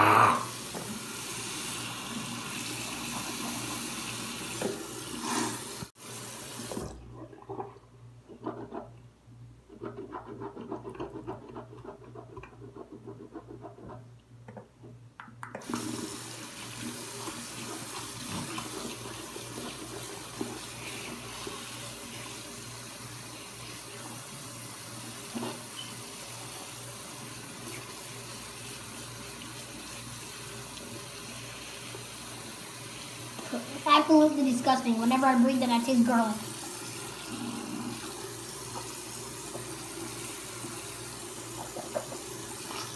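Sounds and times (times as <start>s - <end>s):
tap water running into sink: 0.5s - 7.7s, 15.6s - 42.9s.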